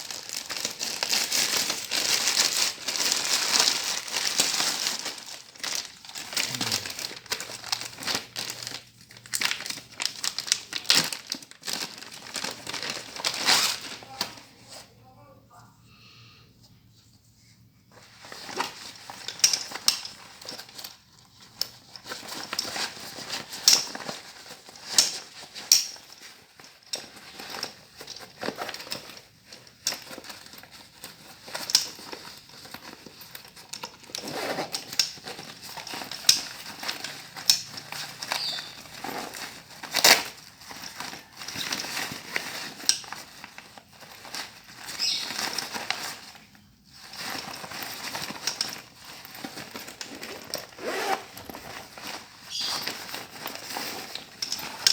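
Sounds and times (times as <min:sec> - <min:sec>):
packaging crinkling and rustling: 0:00.0 - 0:14.8, 0:18.0 - 0:54.9.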